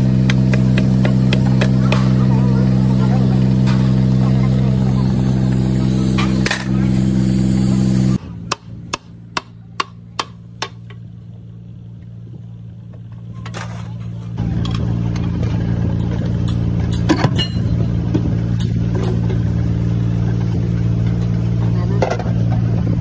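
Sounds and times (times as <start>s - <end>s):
loud engine running steadily: 0.0s - 23.0s
quiet engine drone: 0.0s - 23.0s.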